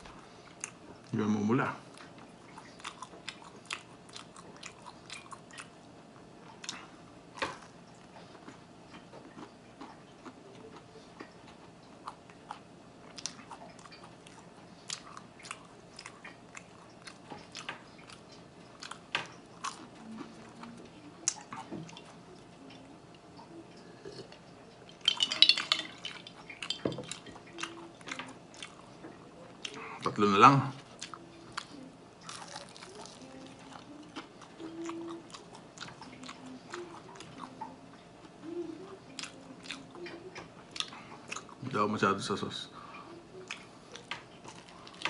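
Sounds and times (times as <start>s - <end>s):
close chewing mouth sounds: 1.9s - 7.0s, 7.6s - 30.1s, 30.8s - 41.6s, 42.8s - 45.0s.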